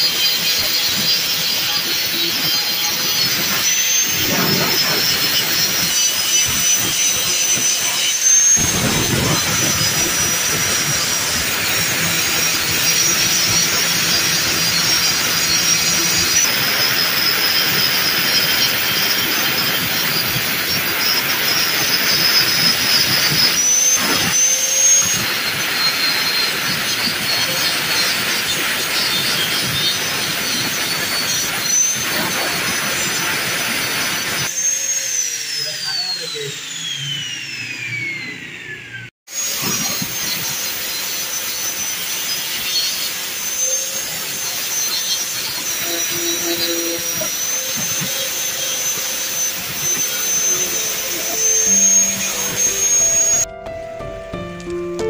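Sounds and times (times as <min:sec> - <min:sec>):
angle grinder grinding steel: 0:00.0 - 0:53.5.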